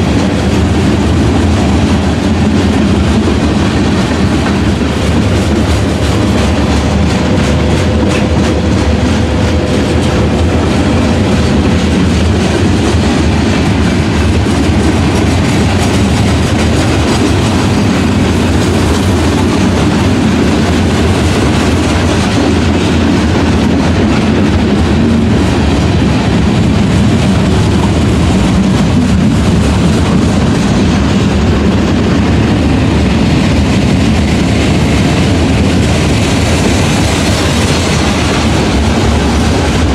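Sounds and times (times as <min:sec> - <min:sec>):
freight train wheels clacking on rails: 0:00.0 - 0:39.9.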